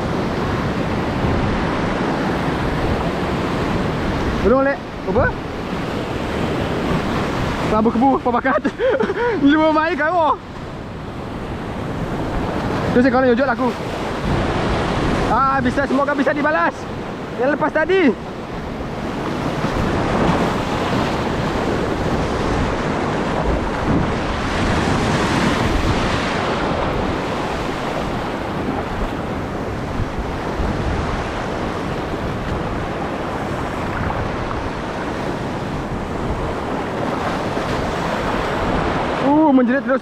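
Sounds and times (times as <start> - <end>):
wind buffeting microphone: 0.0 - 17.4, 18.0 - 39.4
surf washing over reef: 0.0 - 40.0.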